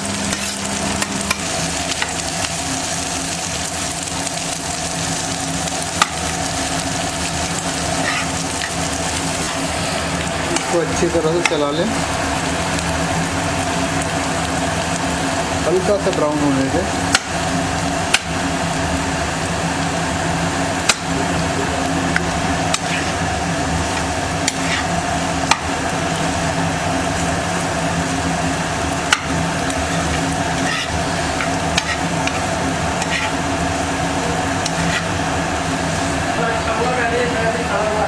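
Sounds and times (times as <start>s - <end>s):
kitchen chimney hum: 0.0s - 38.0s
potatoes sizzling in oil: 0.0s - 38.0s.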